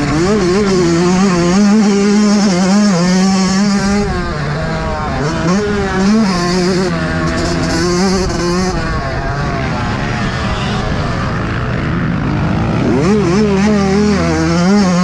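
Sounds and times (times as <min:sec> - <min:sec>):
motocross engine revving: 0:00.0 - 0:15.0.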